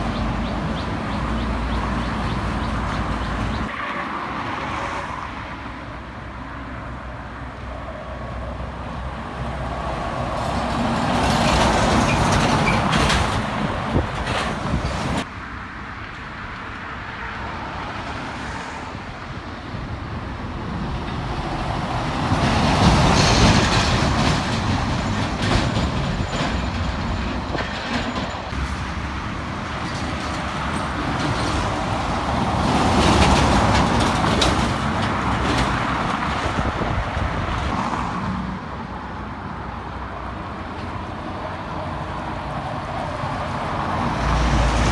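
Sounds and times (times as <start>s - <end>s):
heavy trucks driving past: 0.0s - 15.3s, 17.4s - 44.9s.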